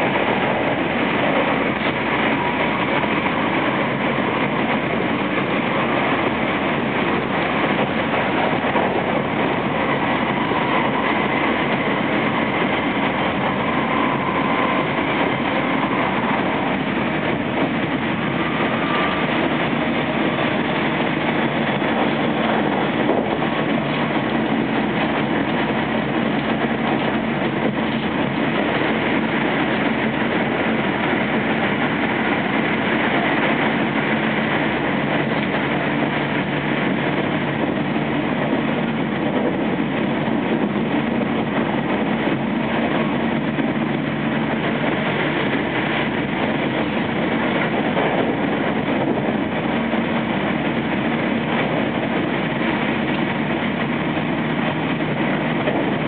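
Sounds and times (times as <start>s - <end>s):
electric train running: 0.0s - 56.0s.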